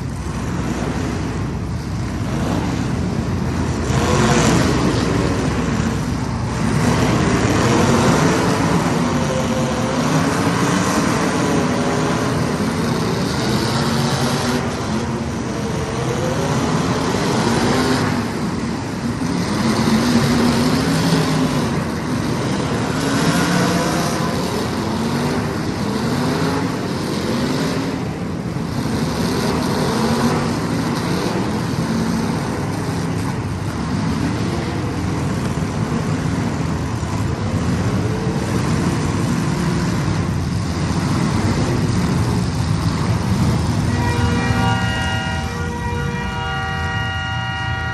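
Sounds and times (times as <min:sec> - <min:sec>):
race car engines accelerating: 0:00.0 - 0:47.9.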